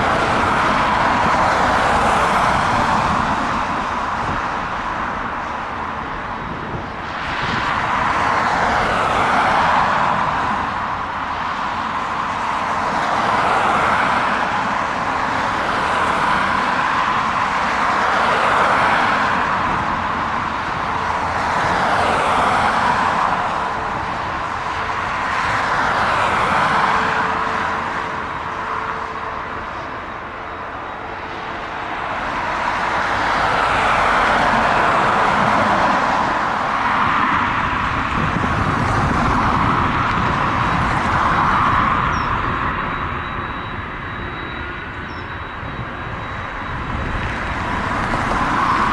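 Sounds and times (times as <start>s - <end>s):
outdoor vehicle noise: 0.0s - 48.9s.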